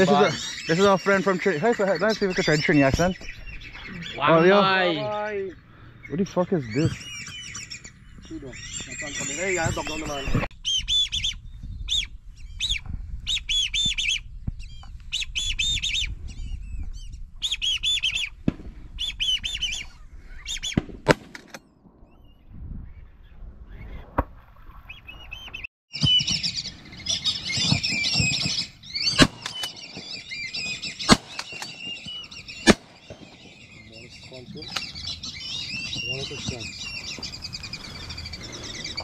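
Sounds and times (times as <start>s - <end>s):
chorus of birds calling: 0.0s - 18.4s, 19.0s - 20.9s, 24.8s - 39.0s
ducks whistling: 0.0s - 18.4s, 19.0s - 20.8s, 24.8s - 39.0s.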